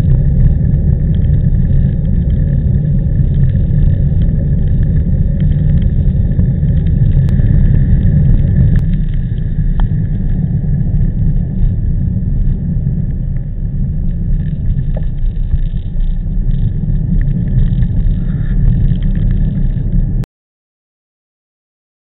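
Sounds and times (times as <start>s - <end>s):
wind buffeting microphone: 0.0s - 20.2s.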